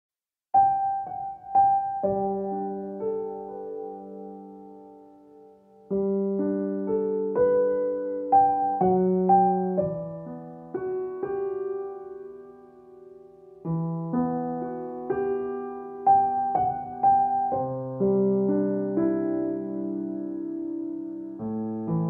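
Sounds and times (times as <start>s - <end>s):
slow solo piano: 0.6s - 22.0s.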